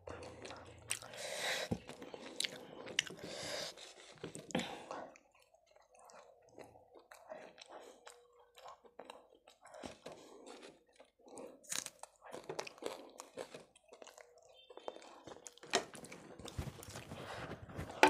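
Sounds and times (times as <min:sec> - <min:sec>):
person chewing with mouth clicks: 0:00.0 - 0:17.2.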